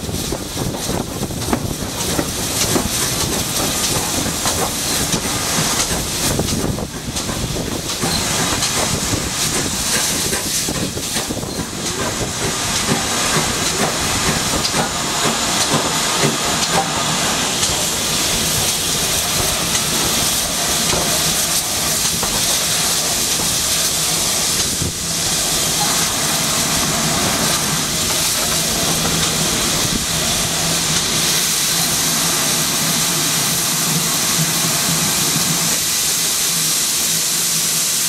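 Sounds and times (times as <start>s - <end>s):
steam locomotive hissing: 0.0s - 38.0s
train rumbling on rails: 0.0s - 38.0s.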